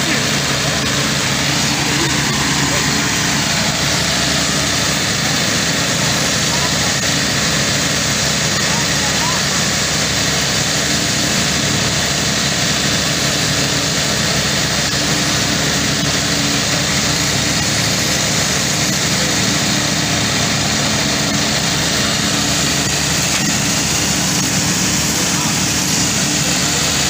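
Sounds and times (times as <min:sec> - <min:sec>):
heavy diesel machinery drone: 0:00.0 - 0:27.0.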